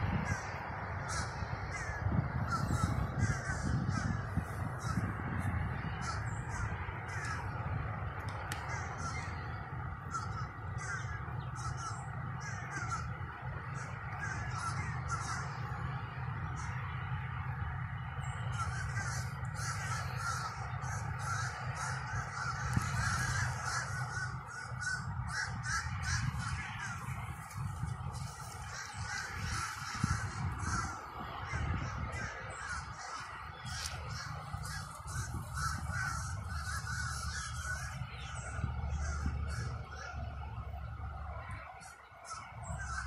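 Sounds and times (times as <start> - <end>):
flock of birds calling: 0.0 - 43.0
steady low rumble: 0.0 - 43.0.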